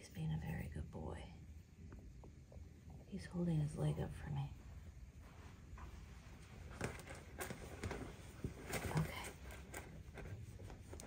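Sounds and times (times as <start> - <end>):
soft rustling: 1.1 - 11.0.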